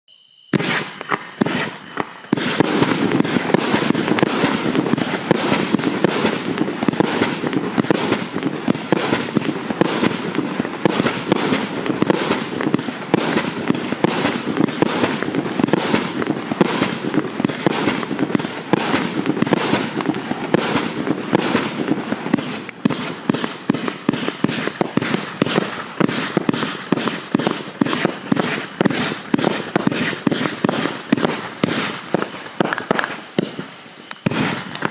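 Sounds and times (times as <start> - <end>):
fireworks launch thumps and bursts: 0.5 - 34.9.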